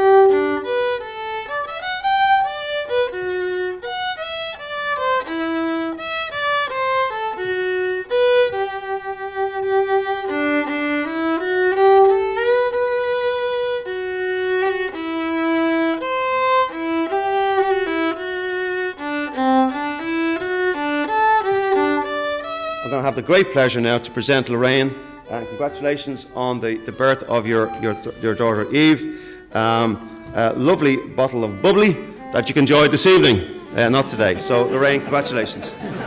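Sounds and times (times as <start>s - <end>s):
violin melody: 0.0s - 36.0s.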